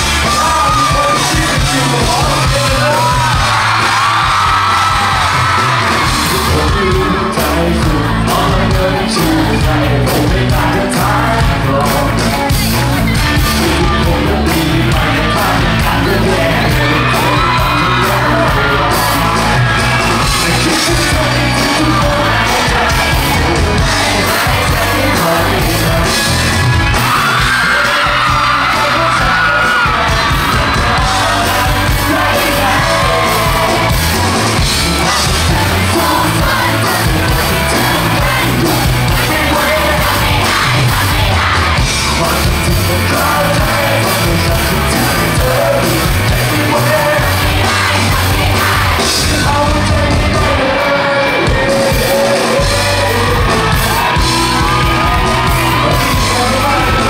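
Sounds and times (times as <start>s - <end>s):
live band playing pop song: 0.0s - 57.0s
man singing into microphone: 0.0s - 57.0s.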